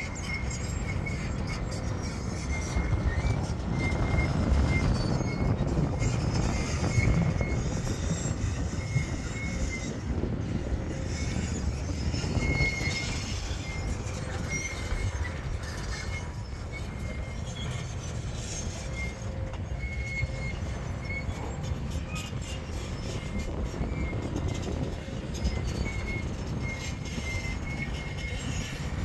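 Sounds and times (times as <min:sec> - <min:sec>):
short high-pitched squeals: 0:00.0 - 0:29.0.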